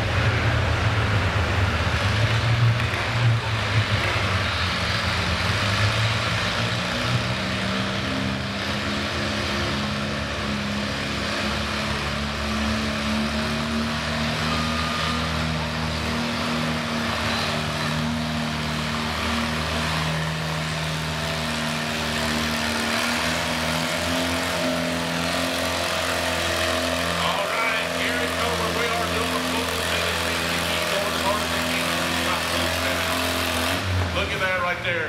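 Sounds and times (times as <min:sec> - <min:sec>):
tractor engine rumbling: 0:00.0 - 0:35.0.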